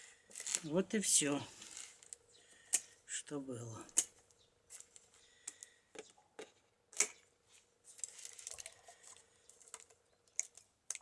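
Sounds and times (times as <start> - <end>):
woven basket creaking and rustling: 0.2 - 2.6, 3.8 - 10.6.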